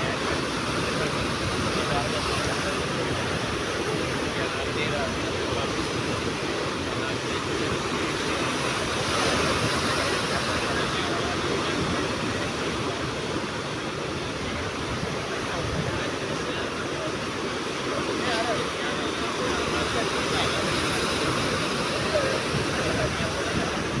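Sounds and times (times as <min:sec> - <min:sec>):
sea surf washing onto shore: 0:00.0 - 0:24.0.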